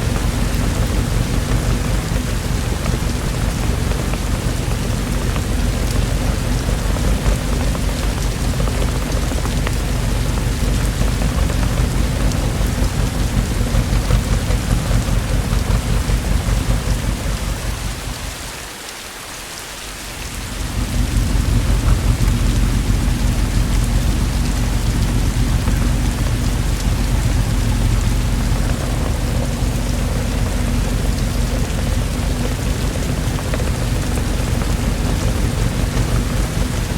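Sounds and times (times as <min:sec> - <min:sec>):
thunder rumbling: 0:00.0 - 0:18.6, 0:20.2 - 0:36.9
heavy rain falling: 0:00.0 - 0:36.9.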